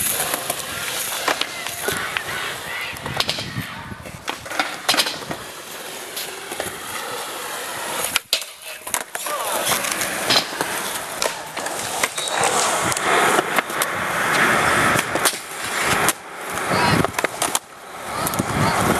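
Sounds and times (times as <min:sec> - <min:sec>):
skateboard clacks: 0:00.0 - 0:18.9
skateboard rolling on concrete: 0:00.0 - 0:18.9
skateboard sliding on metal rail: 0:00.0 - 0:18.9.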